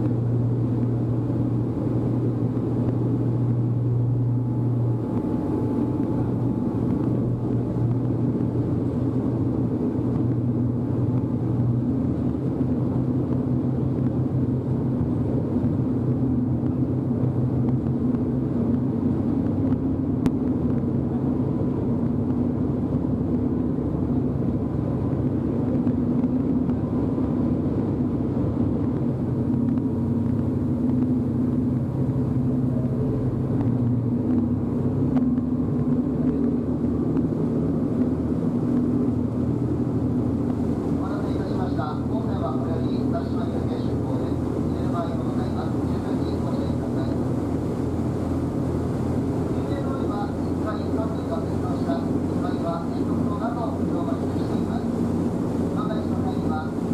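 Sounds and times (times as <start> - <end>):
ferry engine droning hum: 0.0 - 56.9.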